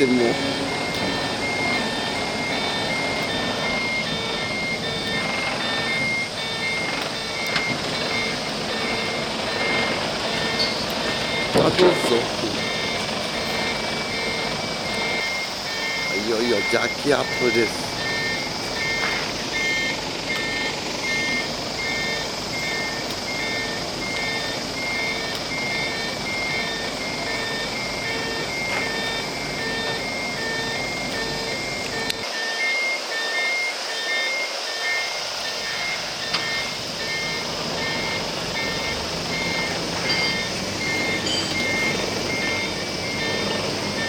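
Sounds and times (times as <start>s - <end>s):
machinery running: 0.0s - 44.0s
two-tone warning alarm beeping: 0.0s - 44.0s.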